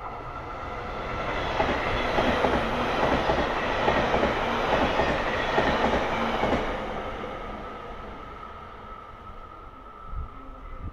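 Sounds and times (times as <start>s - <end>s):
electric train passing: 0.0s - 10.9s.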